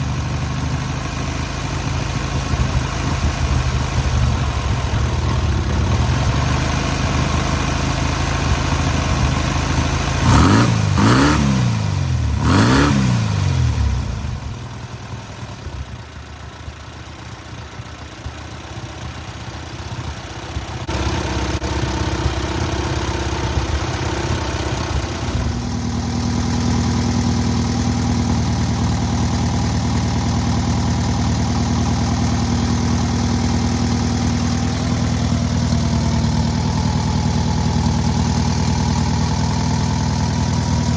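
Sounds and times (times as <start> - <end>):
car engine running and revving: 0.0 - 40.9.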